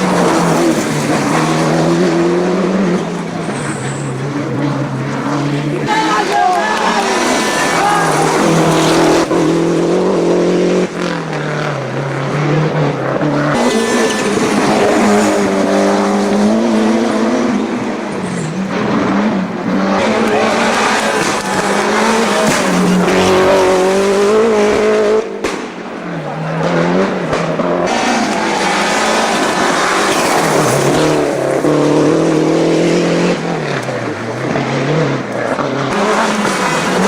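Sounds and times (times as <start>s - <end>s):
rally car engines revving: 0.0s - 37.0s.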